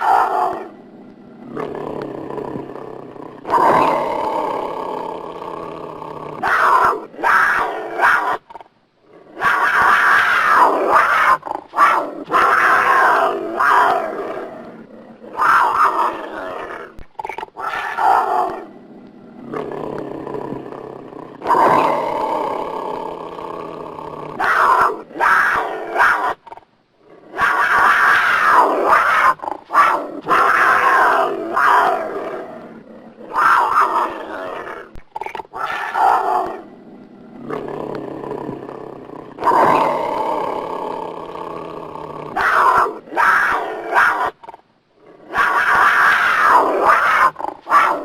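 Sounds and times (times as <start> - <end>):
tiger growling and roaring: 0.0 - 48.0.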